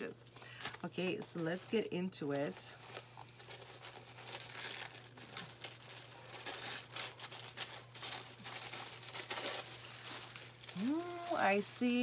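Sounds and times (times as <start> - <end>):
tissue paper crinkling: 0.6 - 12.0.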